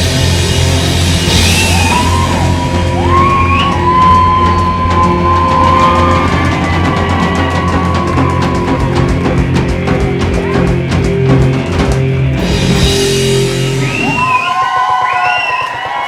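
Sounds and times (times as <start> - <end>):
live rock band playing: 0.0 - 16.0
audience cheering and whooping: 1.2 - 11.3, 13.1 - 16.0.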